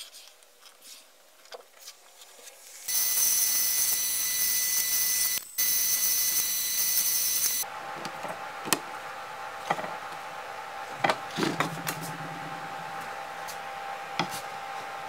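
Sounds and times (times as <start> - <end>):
drill press whining: 2.9 - 15.0.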